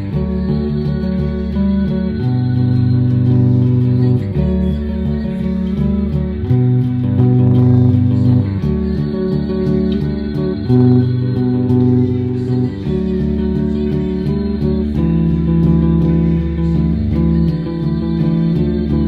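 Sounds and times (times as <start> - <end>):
bass guitar strummed chords: 0.0 - 19.0.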